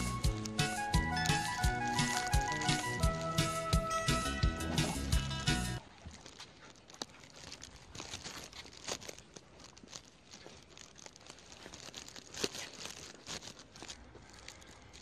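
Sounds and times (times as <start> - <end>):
faint rustling and crinkling: 0.0 - 15.0.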